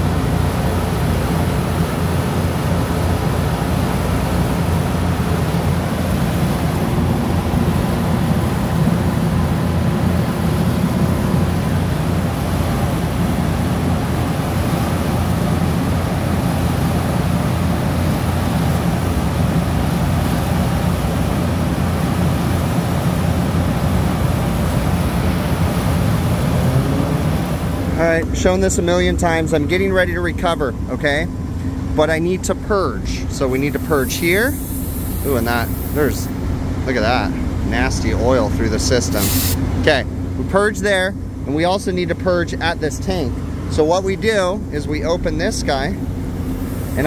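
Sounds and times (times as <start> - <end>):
refrigeration equipment humming: 0.0 - 47.0.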